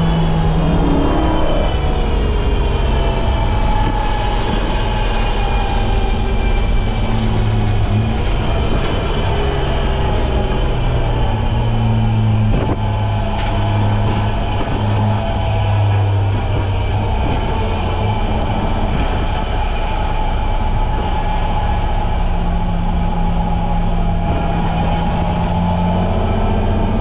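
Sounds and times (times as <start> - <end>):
car engine running hard: 0.0 - 27.0.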